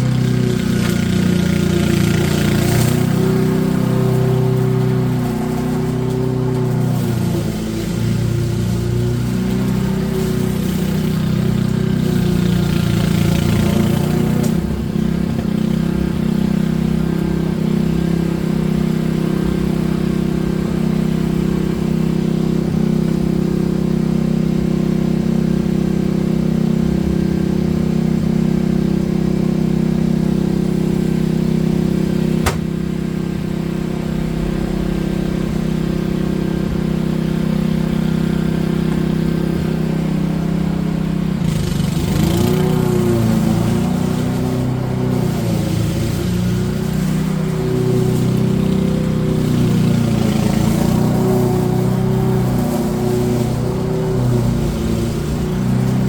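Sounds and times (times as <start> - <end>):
small petrol engine running: 0.0 - 56.0
airy hiss: 1.5 - 23.5, 30.5 - 56.0.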